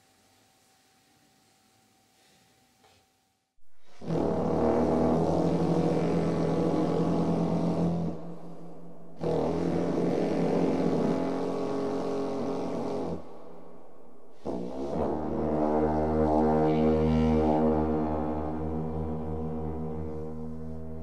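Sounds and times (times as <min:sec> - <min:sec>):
deep droning music: 0:03.7 - 0:21.0.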